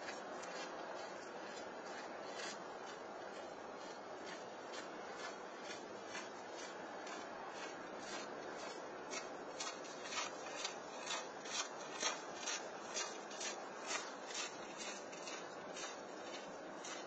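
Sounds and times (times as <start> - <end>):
footsteps crunching on snow: 0.0 - 17.0.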